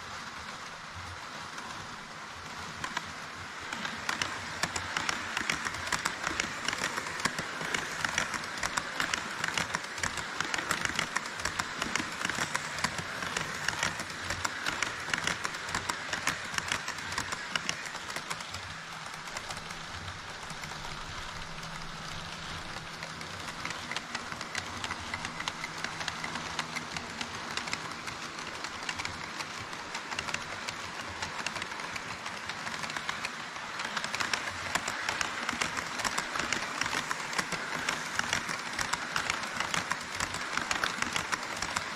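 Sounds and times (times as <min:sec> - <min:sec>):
model train wheels clicking: 0:00.0 - 0:41.9.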